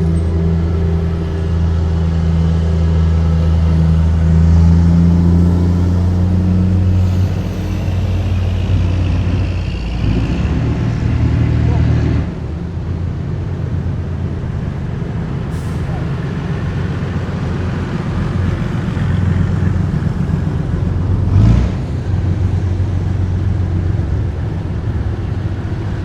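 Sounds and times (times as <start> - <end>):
heavy diesel engines droning: 0.0 - 26.0.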